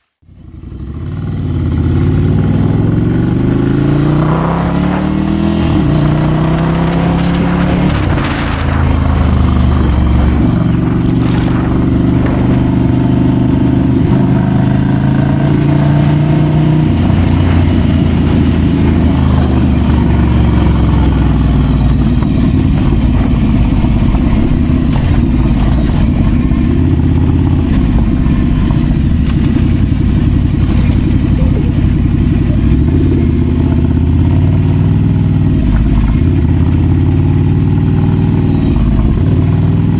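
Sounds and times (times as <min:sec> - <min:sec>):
motorcycle engine revving: 0:00.2 - 0:39.9.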